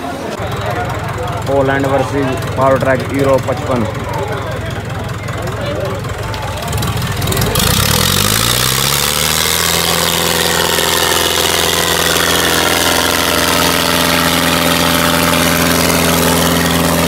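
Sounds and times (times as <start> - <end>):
tractor diesel engines revving: 0.0 - 17.0.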